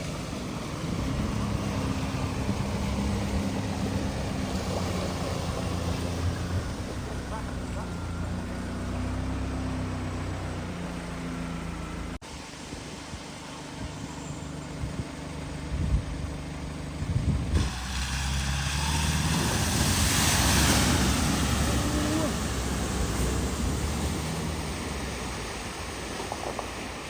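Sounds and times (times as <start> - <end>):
water rushing and splashing: 0.0 - 15.2, 16.4 - 27.0
car engines running: 0.0 - 27.0.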